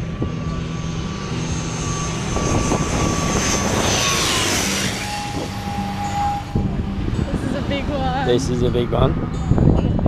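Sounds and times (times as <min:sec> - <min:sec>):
airliner engine whine passing overhead: 0:00.0 - 0:10.0.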